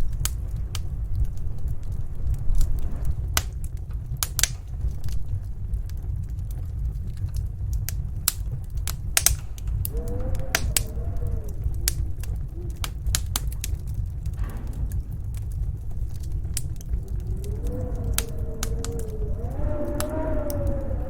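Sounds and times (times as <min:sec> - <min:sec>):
snowstorm wind howling: 0:00.0 - 0:21.0
wood fire crackling and popping: 0:00.0 - 0:21.0.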